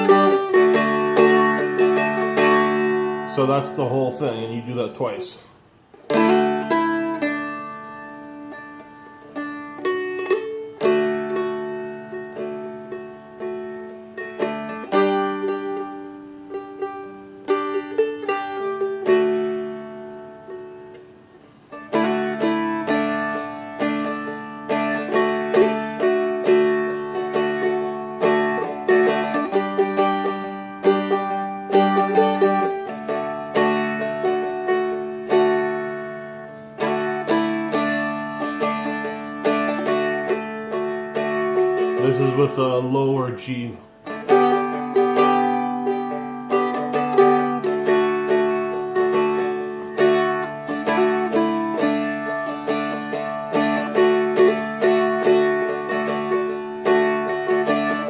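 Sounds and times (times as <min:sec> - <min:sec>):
plucked and strummed dulcimer chords: 0:00.0 - 0:05.2, 0:06.0 - 0:58.0.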